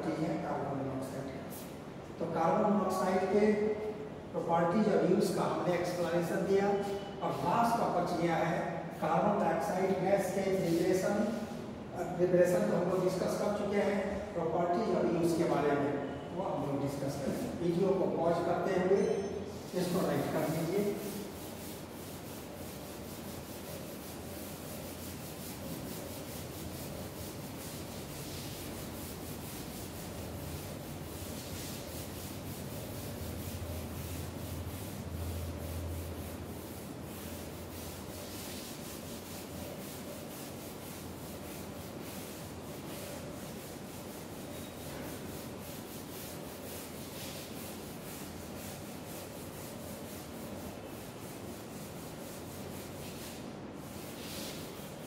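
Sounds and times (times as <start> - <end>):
duster scrubbing a chalkboard: 4.6 - 11.7, 12.3 - 55.0.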